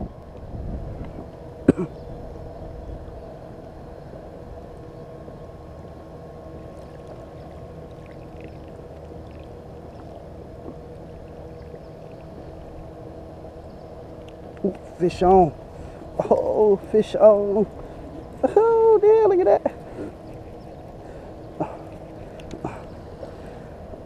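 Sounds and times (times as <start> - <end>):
faint steady hum: 0.0 - 24.0
water washing along hull: 2.2 - 24.0.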